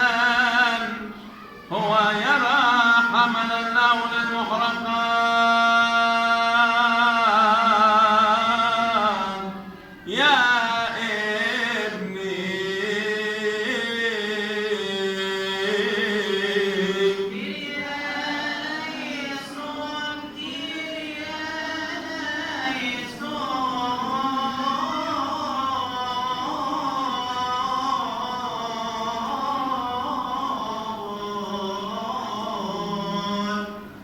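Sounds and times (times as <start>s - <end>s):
person chanting melismatic line: 0.0s - 34.0s.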